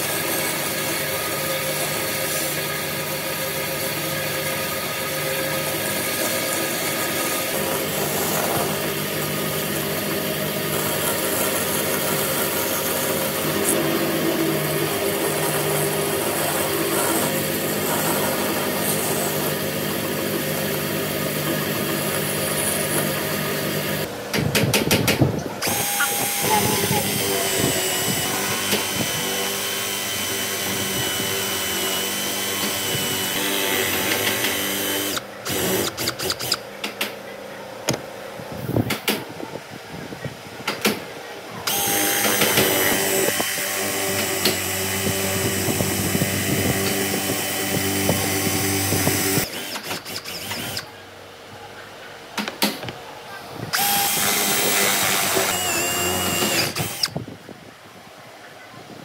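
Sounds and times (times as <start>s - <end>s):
cordless drill whining: 0.0s - 24.1s, 25.6s - 36.6s, 41.7s - 50.9s, 53.7s - 57.2s.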